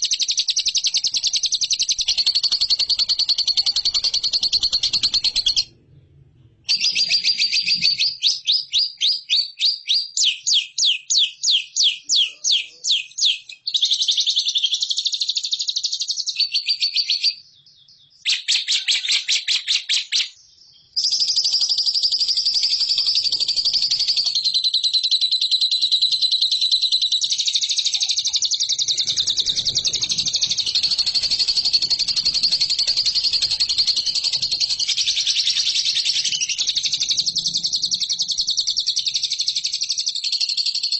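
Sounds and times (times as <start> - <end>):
lovebird chirping and trilling: 0.0 - 5.8, 6.7 - 40.9.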